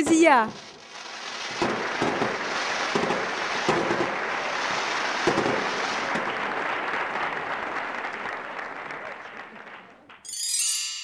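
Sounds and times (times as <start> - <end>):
firework bangs: 0.0 - 9.2
fireworks crackling: 0.0 - 9.8.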